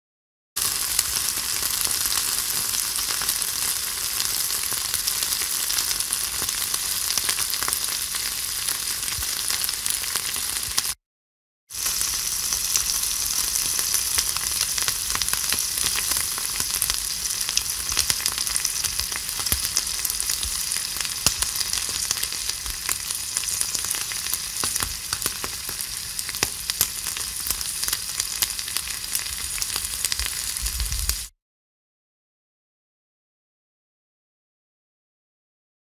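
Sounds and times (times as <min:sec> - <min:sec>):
food sizzling in hot fat: 0:00.6 - 0:11.0, 0:11.7 - 0:31.4.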